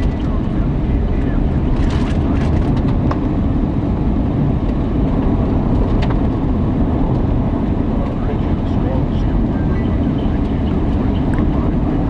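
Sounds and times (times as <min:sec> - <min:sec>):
road and wind rumble: 0:00.0 - 0:12.0.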